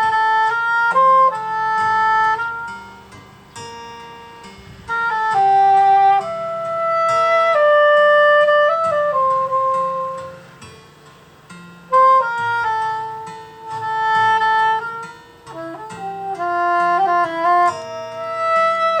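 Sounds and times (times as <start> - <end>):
saxophone slow melody: 0.0 - 10.7, 11.8 - 19.0
soft low accompaniment: 0.0 - 19.0.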